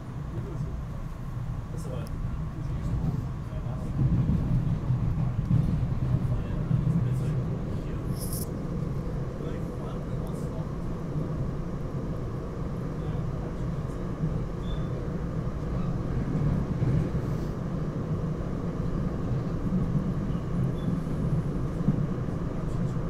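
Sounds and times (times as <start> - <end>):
train rumble inside coach: 0.0 - 23.0.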